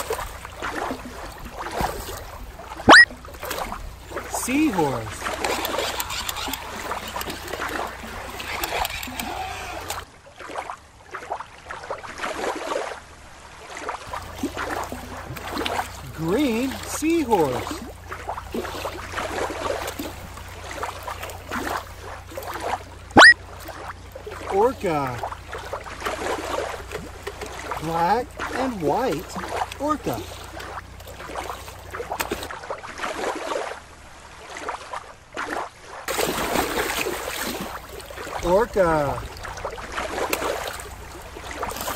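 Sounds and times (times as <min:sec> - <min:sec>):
shallow water splashing: 0:00.0 - 0:41.9.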